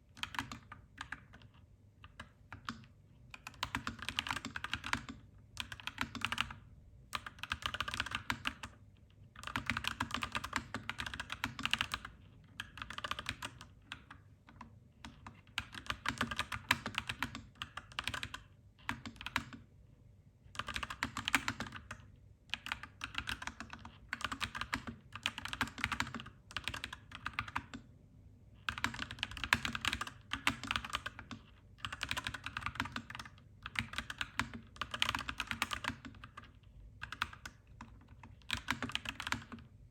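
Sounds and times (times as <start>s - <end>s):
mechanical keyboard typing: 0.1s - 8.8s, 9.4s - 19.7s, 20.5s - 27.9s, 28.7s - 39.8s.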